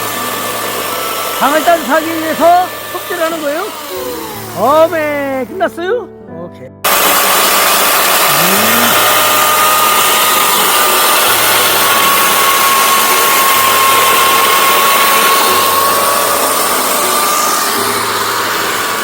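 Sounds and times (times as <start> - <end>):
chainsaw sawing firewood: 0.0 - 5.7, 6.8 - 19.0.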